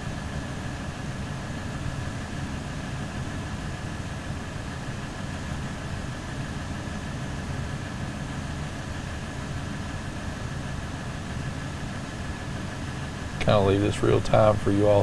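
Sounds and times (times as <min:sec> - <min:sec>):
faint high whine: 0:00.0 - 0:15.0
diesel truck engine idling: 0:00.4 - 0:15.0.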